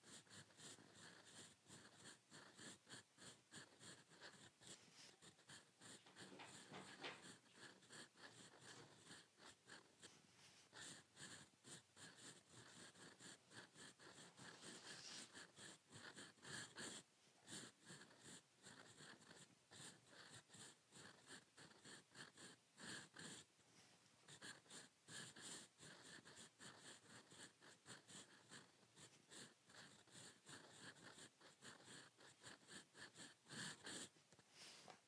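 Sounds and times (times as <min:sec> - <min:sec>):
fountain pen scratching on paper: 0:00.0 - 0:23.5, 0:24.2 - 0:34.8.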